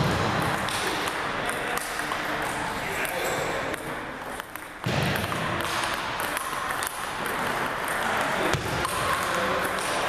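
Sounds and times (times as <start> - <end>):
hubbub of gym hall: 0.0 - 10.0
table tennis balls ticking: 0.0 - 10.0.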